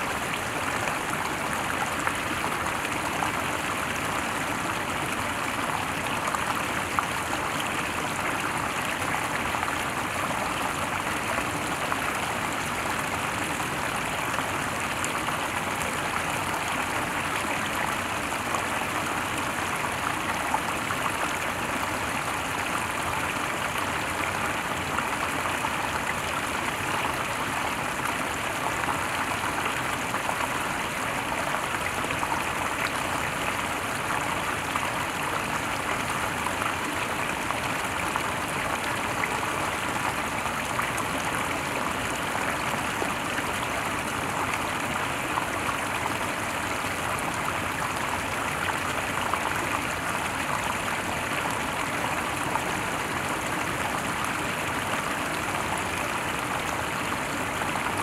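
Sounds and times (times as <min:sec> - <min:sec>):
stream water over cascade: 0:00.0 - 0:58.0.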